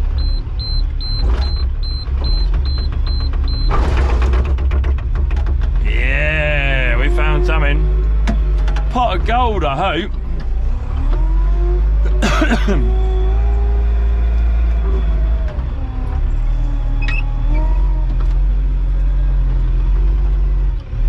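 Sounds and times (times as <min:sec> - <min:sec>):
hydraulics whining: 0:00.0 - 0:20.2
digger diesel engine running: 0:00.0 - 0:21.0.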